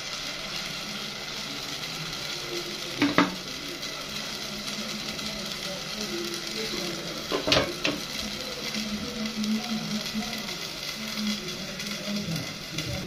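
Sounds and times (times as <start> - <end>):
tomatoes sizzling in a pot: 0.0 - 13.0.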